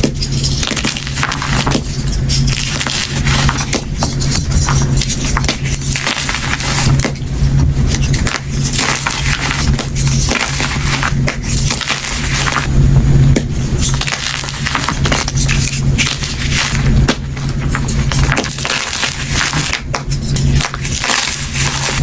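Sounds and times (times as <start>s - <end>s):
chalk crumbling: 0.0s - 12.7s, 13.6s - 22.0s
low hum: 0.0s - 22.0s.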